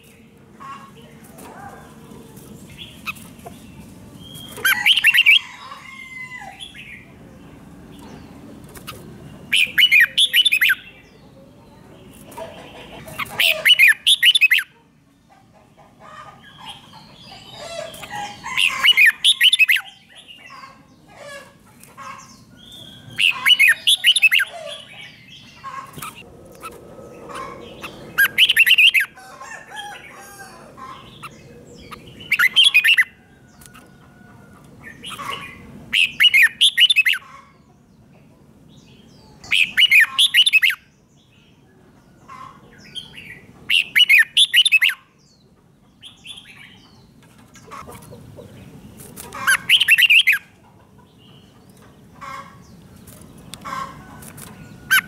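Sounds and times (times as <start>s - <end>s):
bird singing phrases: 0.0s - 29.2s, 29.8s - 55.0s.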